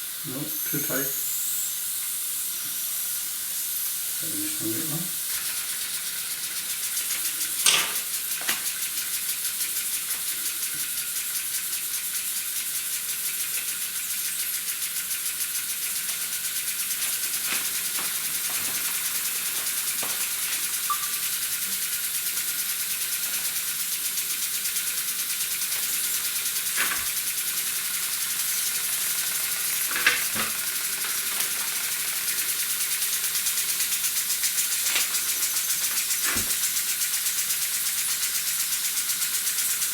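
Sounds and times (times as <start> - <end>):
steam engine ticking: 0.0 - 39.9
steam hissing: 0.0 - 39.9
sharp clicks of fittings: 0.3 - 39.9.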